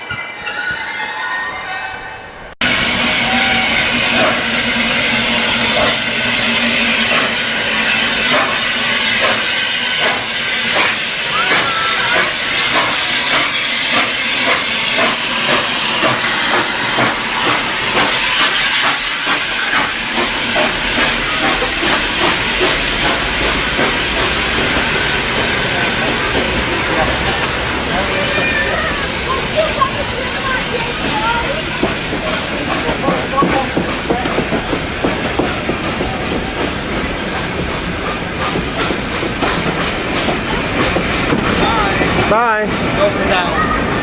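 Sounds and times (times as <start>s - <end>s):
steam locomotive hissing: 2.6s - 44.0s
locomotive rhythmic beats: 2.7s - 43.4s.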